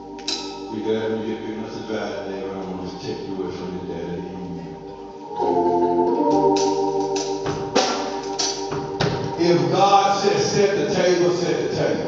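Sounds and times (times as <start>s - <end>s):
organ playing sustained chords: 0.0s - 12.0s.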